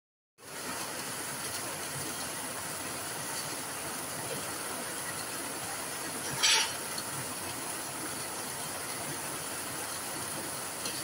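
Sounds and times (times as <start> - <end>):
heavy rain on leafy plants: 0.4 - 11.0.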